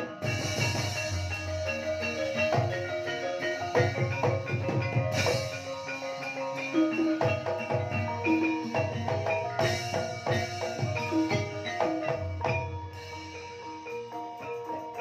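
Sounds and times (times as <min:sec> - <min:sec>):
mallet-struck keyed instruments ringing: 0:00.0 - 0:15.0.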